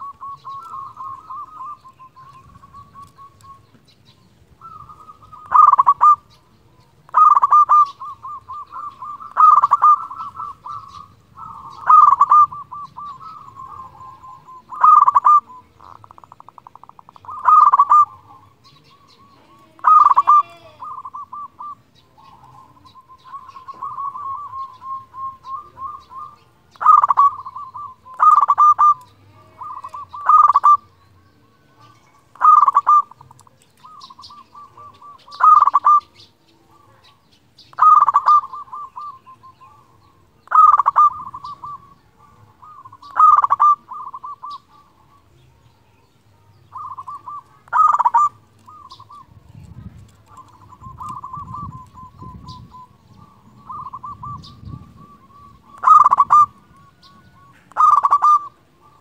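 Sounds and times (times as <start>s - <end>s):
dove cooing: 0.0s - 3.8s, 4.5s - 31.0s, 32.3s - 45.6s, 46.4s - 59.0s.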